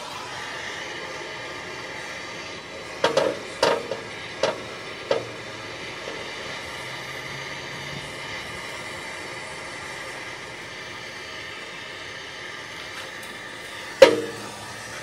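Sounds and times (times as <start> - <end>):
propane torch hissing: 0.0 - 15.0.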